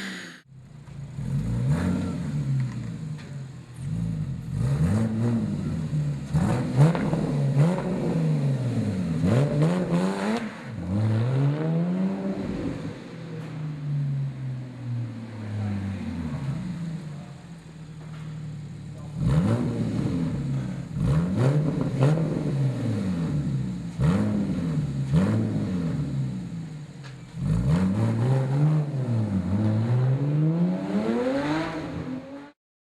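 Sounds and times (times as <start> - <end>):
car engine revving: 0.0 - 32.6.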